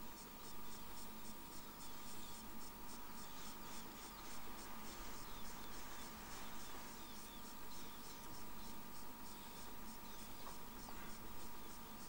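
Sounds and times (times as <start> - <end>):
insects chirping: 0.0 - 12.0
steady hum: 0.0 - 12.0.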